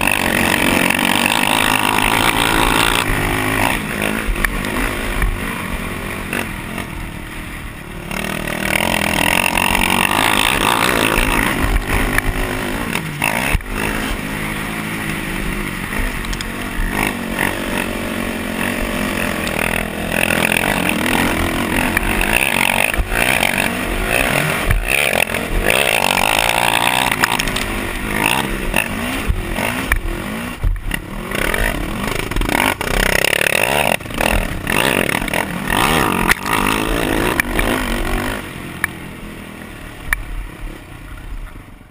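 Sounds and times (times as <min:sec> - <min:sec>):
quad engine revving: 0:00.0 - 0:39.8.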